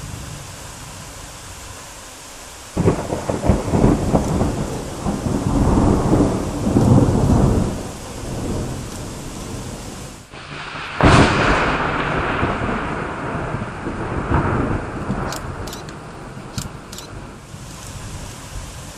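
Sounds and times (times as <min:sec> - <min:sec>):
rain hiss: 0:00.0 - 0:18.9
thunder crack and rumble: 0:02.8 - 0:18.9.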